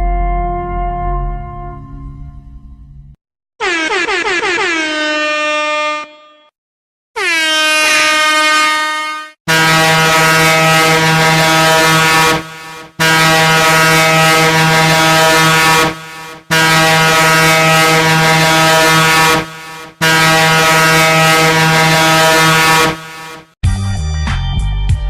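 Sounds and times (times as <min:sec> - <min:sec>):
low horn blasts: 0:00.0 - 0:06.5, 0:07.2 - 0:23.5.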